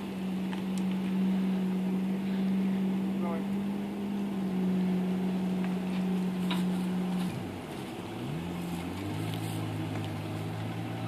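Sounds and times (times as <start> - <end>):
car engine running under load: 0.0 - 11.0.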